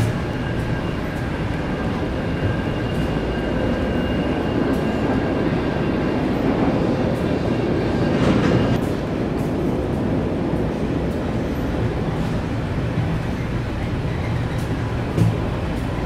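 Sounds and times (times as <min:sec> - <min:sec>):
machinery and ventilation drone: 0:00.0 - 0:16.0.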